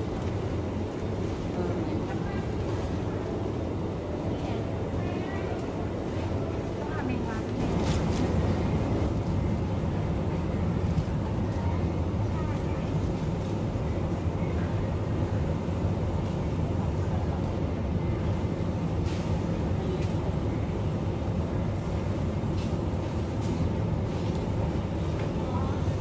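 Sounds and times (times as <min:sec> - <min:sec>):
low hum of refrigeration and air: 0:00.0 - 0:26.0.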